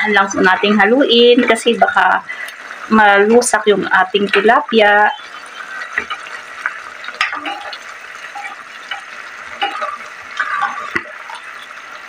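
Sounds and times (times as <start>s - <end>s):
sauce bubbling and hissing: 1.0s - 12.0s.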